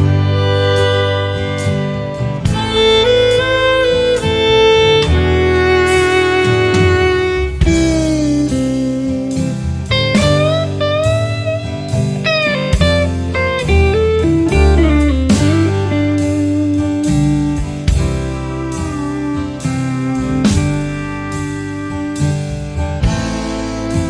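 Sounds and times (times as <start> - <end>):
blues slide guitar music: 0.0 - 24.0.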